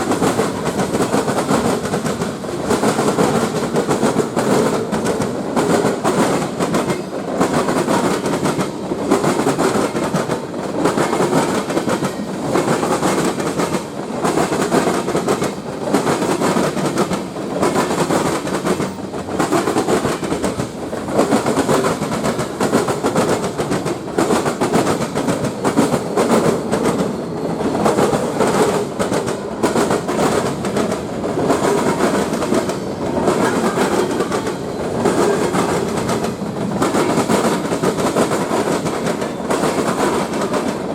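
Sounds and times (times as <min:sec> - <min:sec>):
wheels clicking over rail joints: 0:00.0 - 0:40.9.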